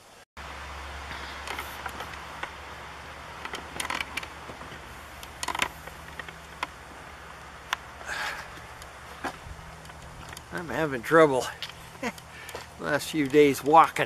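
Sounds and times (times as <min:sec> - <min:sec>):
steady low hum: 0:00.4 - 0:14.0.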